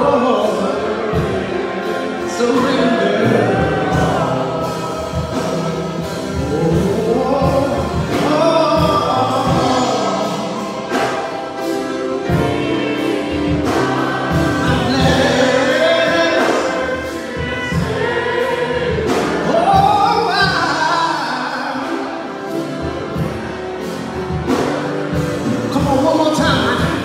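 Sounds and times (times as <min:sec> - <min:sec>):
group singing gospel song: 0:00.0 - 0:27.0
instrumental accompaniment with beat: 0:00.0 - 0:27.0.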